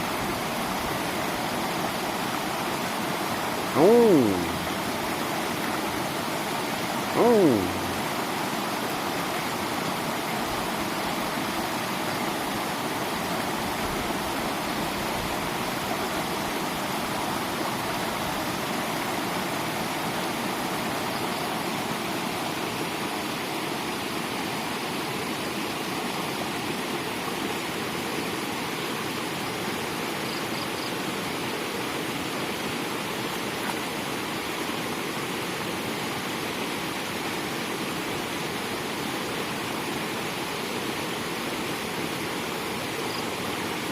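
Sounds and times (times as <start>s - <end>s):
floodwater rushing: 0.0s - 30.0s, 31.1s - 43.9s.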